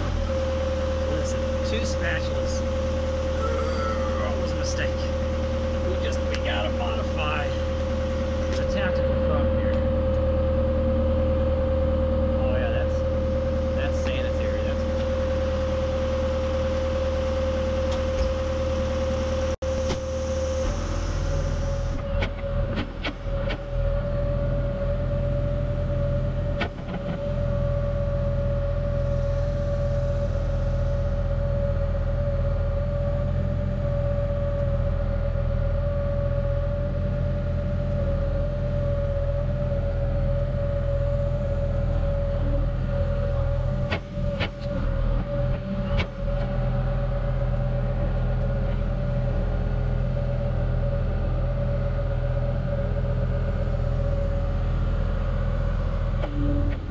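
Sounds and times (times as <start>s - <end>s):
constant whine: 0.0s - 56.9s
excavator engine droning: 0.0s - 56.9s.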